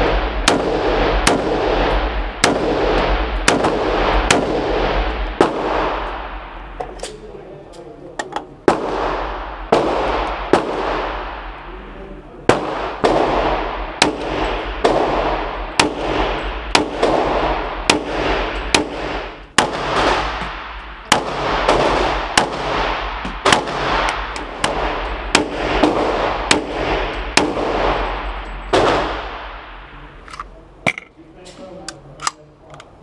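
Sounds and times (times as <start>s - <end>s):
echoing handgun shots: 0.0s - 6.9s, 8.6s - 11.6s, 12.5s - 31.1s.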